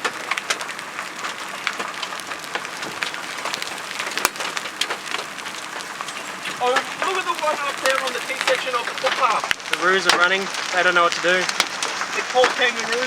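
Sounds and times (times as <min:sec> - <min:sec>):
hailstones hitting the road: 0:00.0 - 0:13.0
hiss of downpour: 0:00.0 - 0:13.0
loud crack: 0:00.0 - 0:13.0.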